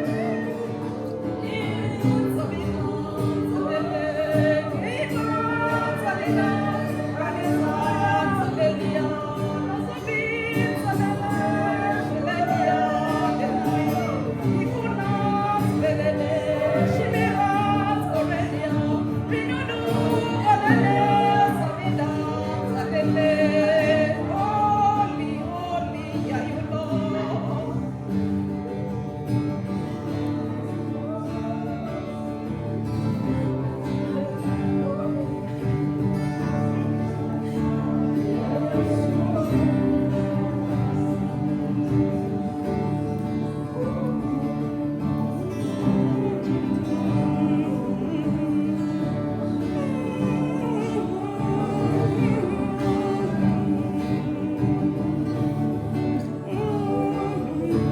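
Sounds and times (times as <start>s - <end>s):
voices singing: 0.0s - 57.9s.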